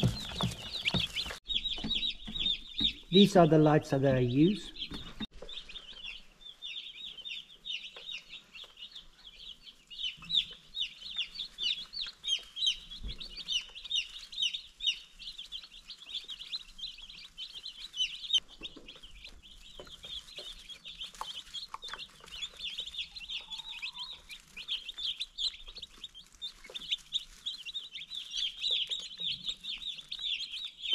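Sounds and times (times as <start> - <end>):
chicks peeping: 0.0 - 30.9.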